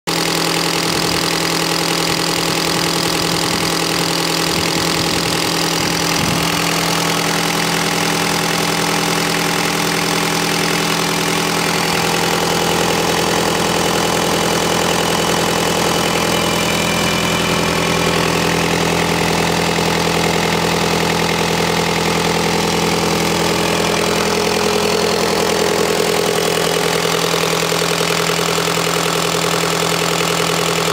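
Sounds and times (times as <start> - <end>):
diesel engine idling: 0.1 - 30.9.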